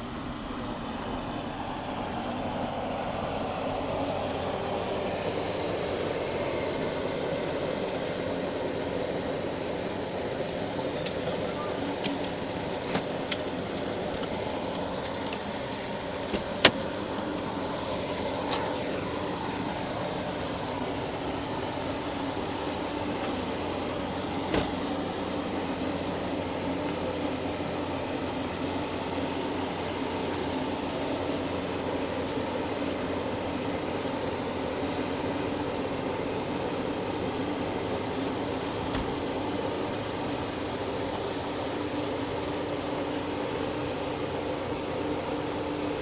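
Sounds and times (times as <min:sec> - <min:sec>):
steady machinery hum: 0:00.0 - 0:46.0.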